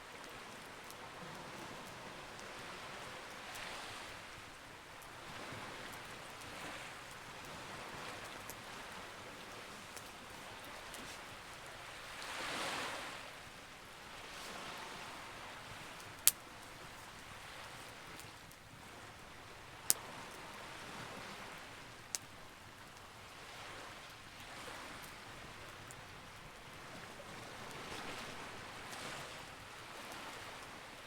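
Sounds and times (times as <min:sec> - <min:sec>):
soft surf: 0:00.0 - 0:31.0
campfire crackling: 0:00.1 - 0:30.7.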